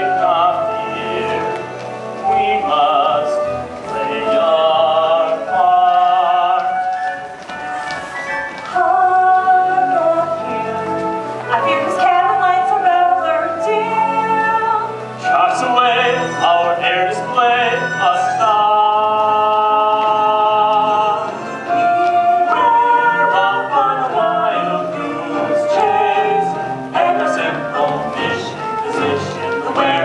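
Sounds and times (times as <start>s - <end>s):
voices singing: 0.0s - 7.0s, 8.7s - 30.0s
instrumental accompaniment: 0.0s - 30.0s.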